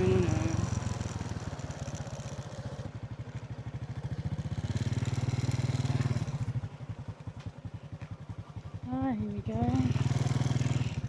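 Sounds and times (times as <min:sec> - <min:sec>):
small motorbike engine running: 0:00.0 - 0:11.0.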